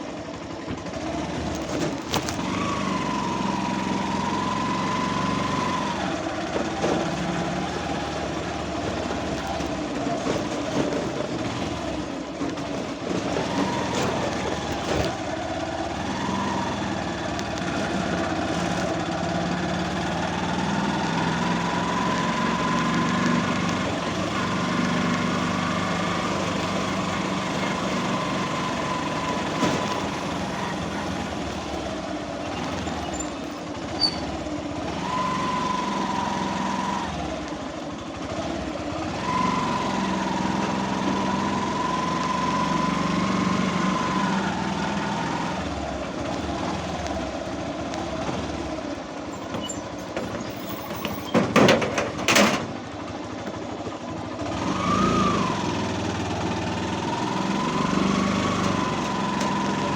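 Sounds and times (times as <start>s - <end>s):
engine whine: 0.0s - 59.9s
vehicle engine running: 0.0s - 59.9s.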